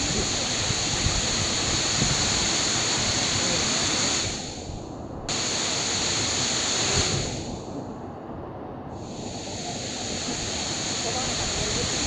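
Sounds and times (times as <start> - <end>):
waterfall rushing: 0.0 - 4.6, 5.3 - 7.5, 9.1 - 12.0.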